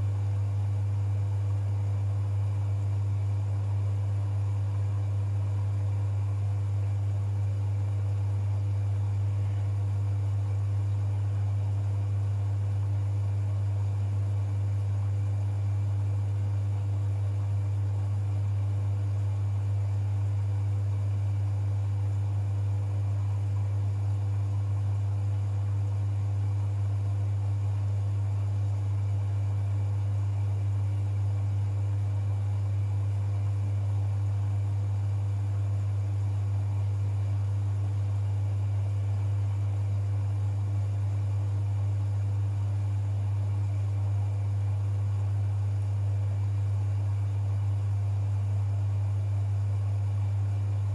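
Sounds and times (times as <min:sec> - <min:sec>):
washing machine humming: 0:00.0 - 0:50.9.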